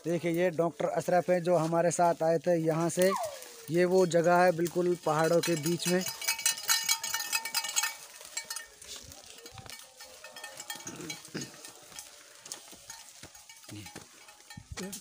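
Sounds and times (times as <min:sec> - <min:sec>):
footsteps on stone path: 0:00.0 - 0:15.0
bright jingling clatter: 0:02.8 - 0:15.0.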